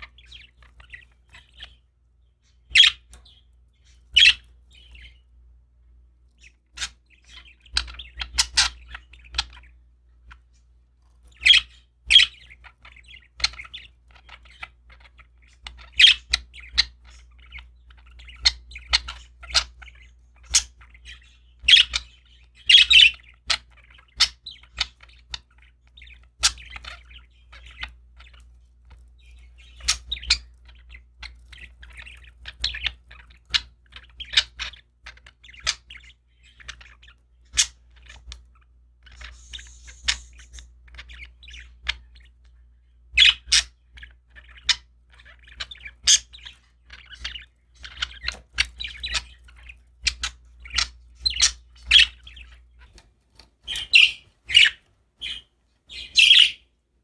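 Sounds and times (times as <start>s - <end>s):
budgerigars chirping: 0.0s - 56.8s
faint low hum: 0.0s - 57.0s.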